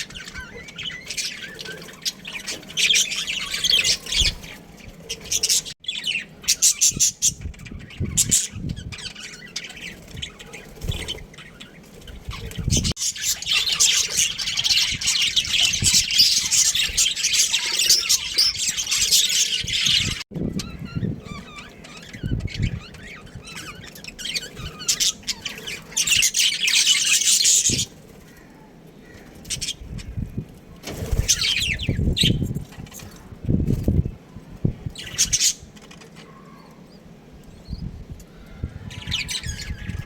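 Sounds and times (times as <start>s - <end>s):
budgerigars chirping and squawking: 0.0s - 28.4s, 35.0s - 36.9s, 37.7s - 40.0s.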